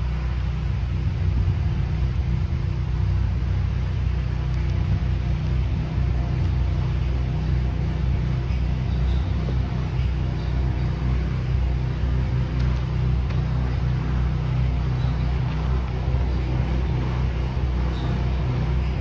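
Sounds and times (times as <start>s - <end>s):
engine droning hum: 0.0s - 19.0s.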